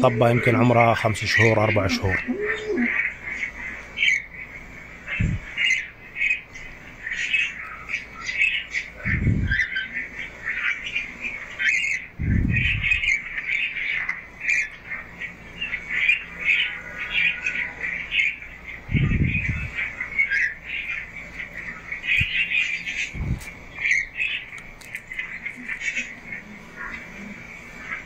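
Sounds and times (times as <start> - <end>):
small birds chirping and peeping: 0.0 - 28.0.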